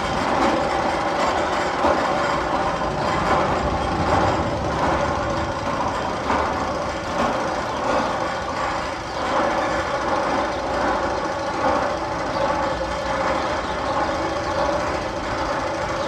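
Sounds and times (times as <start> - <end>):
rattling rumbling mechanical sound: 0.0 - 16.0.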